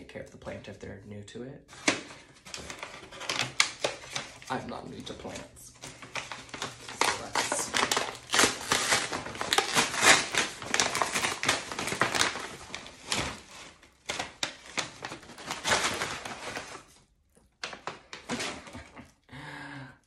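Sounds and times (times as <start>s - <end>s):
packing paper crinkling: 1.7s - 19.1s.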